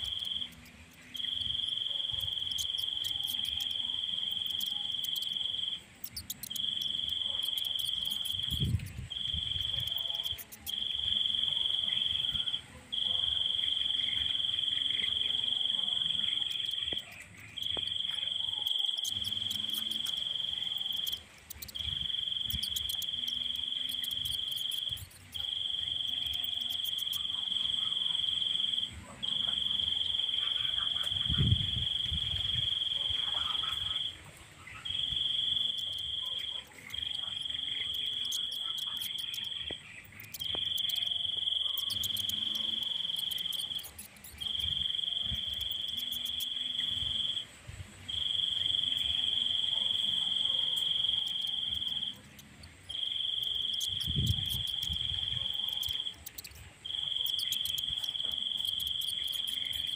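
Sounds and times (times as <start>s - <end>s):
insect trilling: 0.0s - 47.5s, 48.1s - 59.9s.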